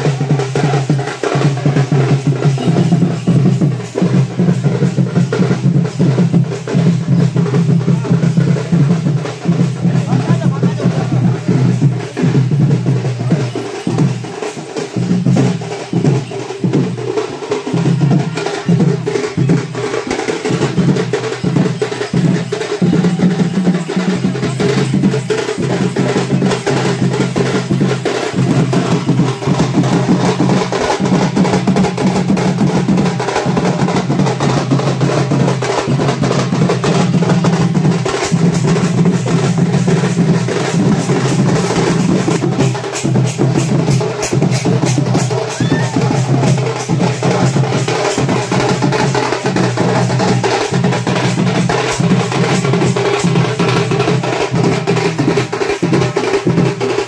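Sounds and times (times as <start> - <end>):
music with fast drumming: 0.0 - 57.0.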